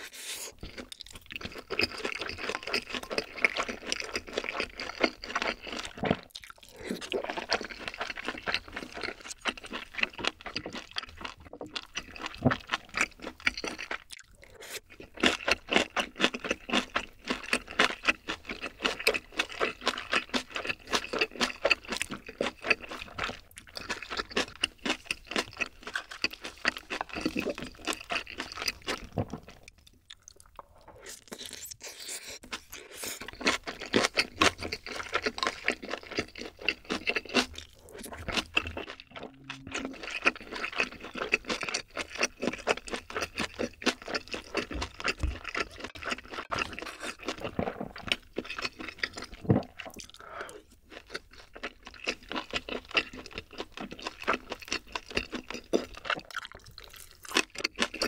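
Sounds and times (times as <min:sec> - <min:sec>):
wet chewing: 0:00.0 - 0:58.0
crunching food: 0:00.3 - 0:58.0.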